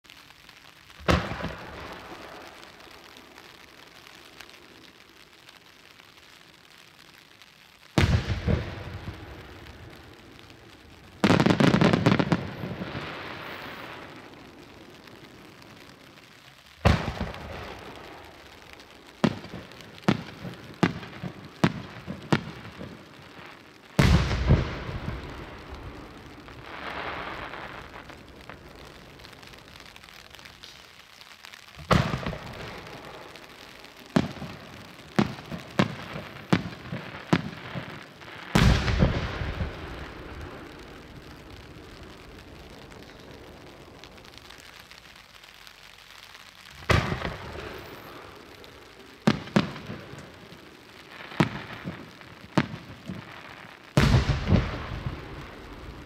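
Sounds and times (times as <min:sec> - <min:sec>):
sharp firework pops: 0:00.0 - 0:06.8, 0:07.9 - 0:56.0.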